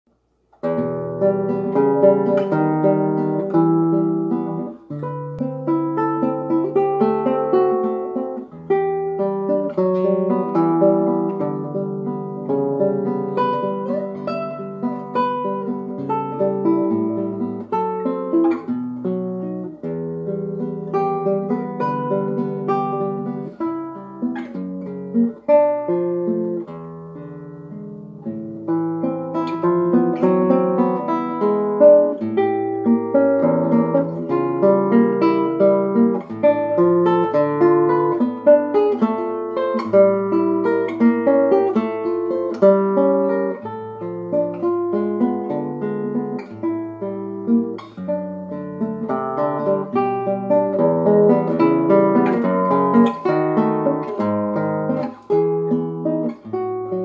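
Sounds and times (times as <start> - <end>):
fingerpicked classical guitar: 0.1 - 57.0.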